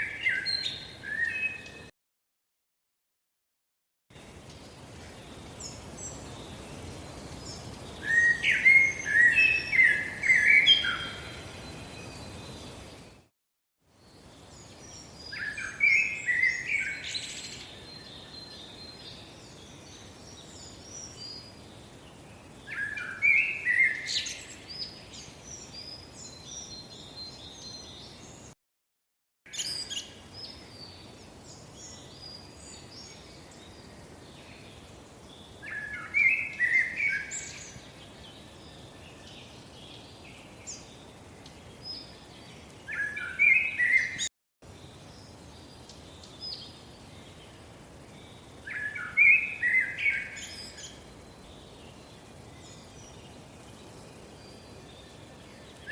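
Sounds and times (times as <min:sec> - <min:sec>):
small birds chirping: 0:00.0 - 0:01.9, 0:04.1 - 0:13.3, 0:13.9 - 0:28.6, 0:29.5 - 0:55.9
faint hiss: 0:04.2 - 0:13.3, 0:13.9 - 0:28.6, 0:29.5 - 0:55.9.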